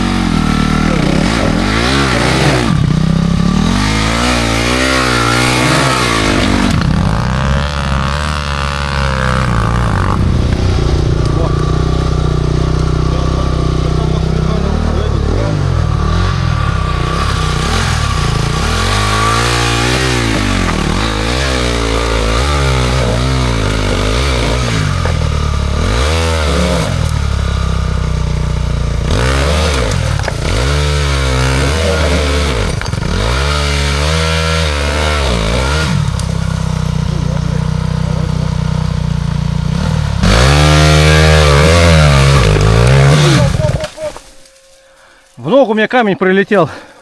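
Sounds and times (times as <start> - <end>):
dirt bike engine revving: 0.0 - 45.2.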